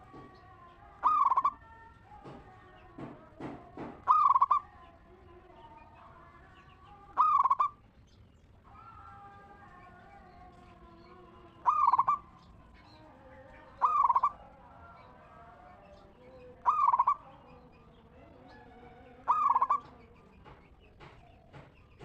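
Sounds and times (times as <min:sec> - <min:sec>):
dove cooing: 0:00.0 - 0:04.8, 0:07.0 - 0:07.8, 0:08.7 - 0:21.7
faint bird calls: 0:00.0 - 0:04.9, 0:05.6 - 0:22.0.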